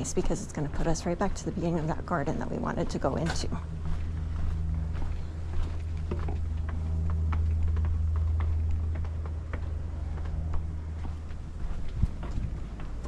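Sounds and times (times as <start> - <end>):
footsteps on paved path: 0.0 - 13.0
steady low hum: 0.0 - 13.0.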